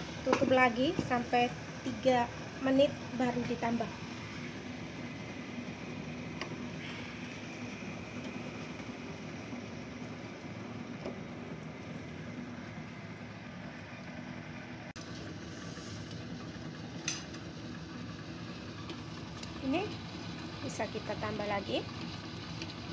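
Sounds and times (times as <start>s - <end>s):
gas stove burner rushing: 0.0s - 22.9s
low hum: 0.0s - 22.9s.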